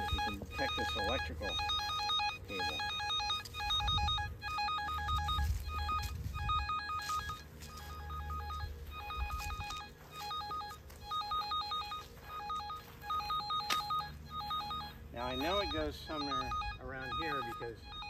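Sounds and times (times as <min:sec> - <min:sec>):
wire locator receiver beeping: 0:00.0 - 0:18.0.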